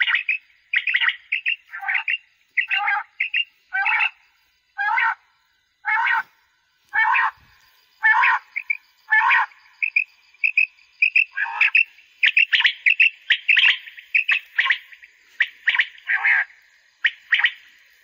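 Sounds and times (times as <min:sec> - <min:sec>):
electronic quail calls: 0:00.0 - 0:04.2, 0:05.8 - 0:06.3, 0:06.9 - 0:17.7.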